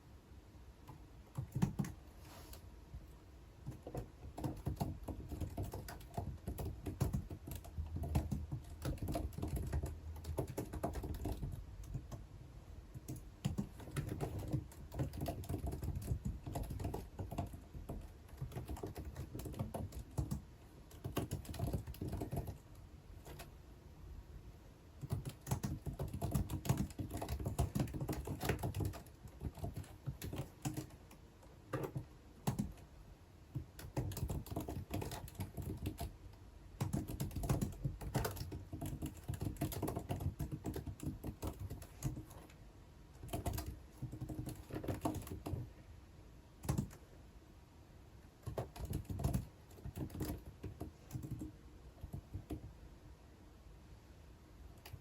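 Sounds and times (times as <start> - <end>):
typing on computer keyboard: 0.8 - 2.6, 3.6 - 12.3, 12.9 - 23.6, 25.0 - 32.9, 33.5 - 36.2, 36.8 - 45.8, 46.6 - 47.0, 48.4 - 52.7, 54.8 - 55.0.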